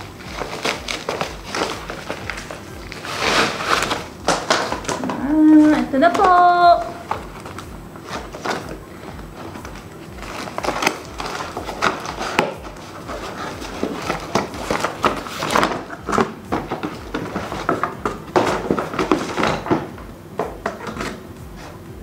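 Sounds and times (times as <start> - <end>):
cardboard box rustling: 0.0 - 20.0.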